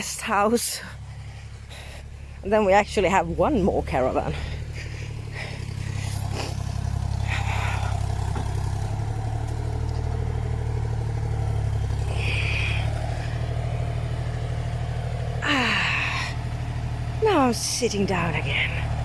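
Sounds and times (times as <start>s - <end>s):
excavator engine droning: 0.0s - 19.0s.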